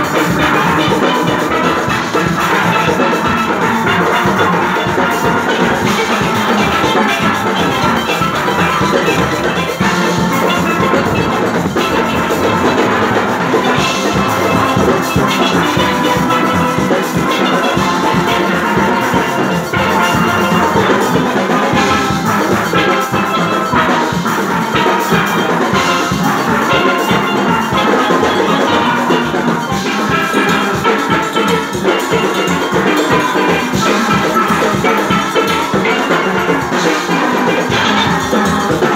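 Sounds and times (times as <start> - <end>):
drums and percussion: 0.0 - 38.9
steel pans playing: 0.0 - 38.9.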